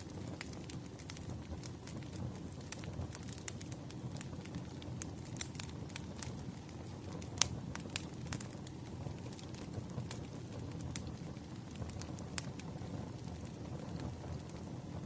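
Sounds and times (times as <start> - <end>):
campfire crackling and popping: 0.0 - 15.0
low rumble of burning flames: 0.0 - 15.0.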